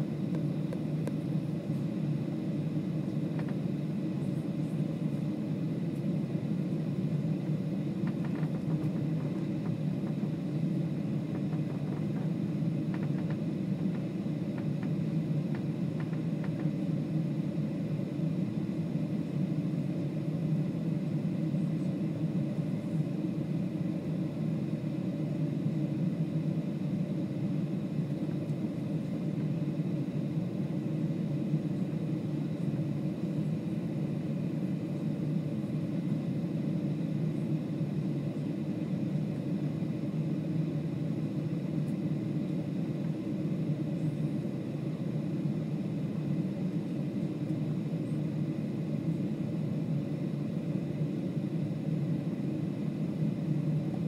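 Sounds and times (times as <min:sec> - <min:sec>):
airplane cabin engine rumble: 0:00.0 - 0:54.0
faint high steady whine: 0:00.0 - 0:54.0.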